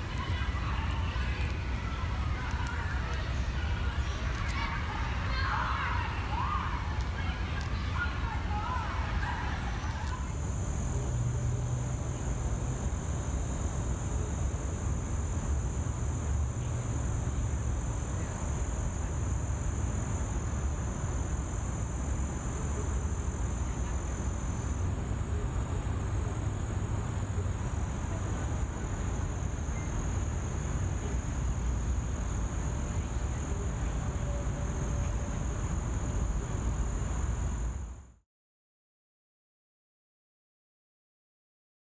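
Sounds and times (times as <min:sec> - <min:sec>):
low city traffic rumble: 0:00.0 - 0:38.2.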